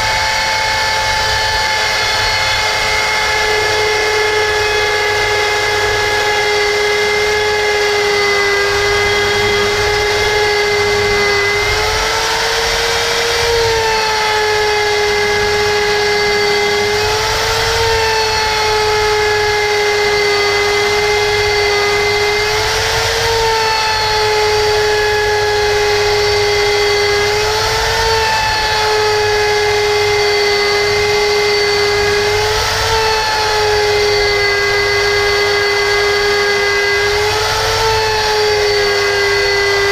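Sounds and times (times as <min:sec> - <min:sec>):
electric router whining: 0:00.0 - 0:39.9
router bit cutting metal: 0:00.0 - 0:39.9.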